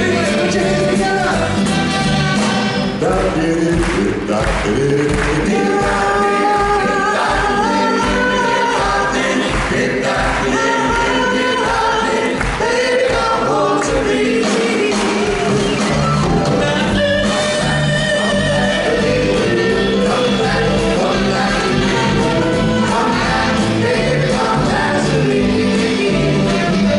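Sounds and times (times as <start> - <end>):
vocal group singing in harmony: 0.0 - 1.7, 3.0 - 16.0, 16.7 - 26.9
instrumental backing: 0.0 - 26.9.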